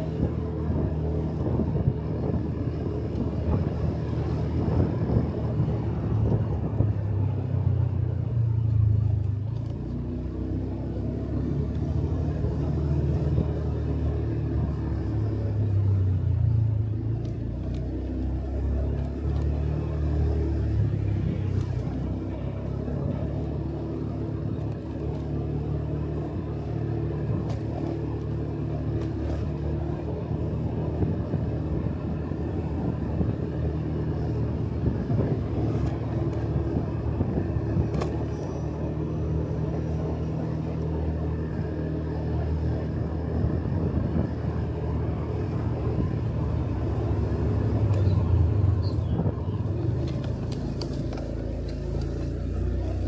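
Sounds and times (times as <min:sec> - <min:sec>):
motorcycle engine running: 0:00.0 - 0:53.0
road noise: 0:00.0 - 0:53.0.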